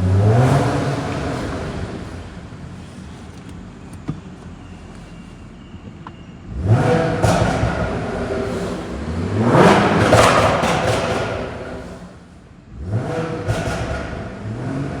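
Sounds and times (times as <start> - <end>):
exhaust pops and crackles: 0.0 - 12.4, 13.1 - 15.0
car engine revving: 0.0 - 15.0.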